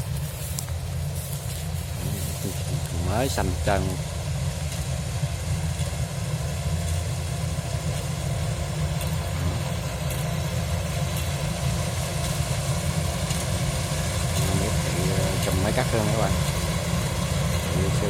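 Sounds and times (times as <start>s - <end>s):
combine harvester engine droning: 0.0s - 18.0s.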